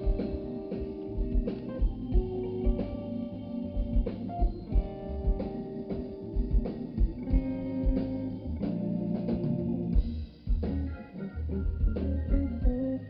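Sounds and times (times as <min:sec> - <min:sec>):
bass: 0:00.0 - 0:13.0
electric guitar: 0:00.0 - 0:13.0.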